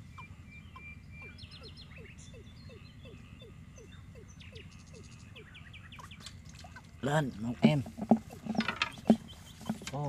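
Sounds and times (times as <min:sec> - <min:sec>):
low falling bird calls: 0:00.0 - 0:10.0.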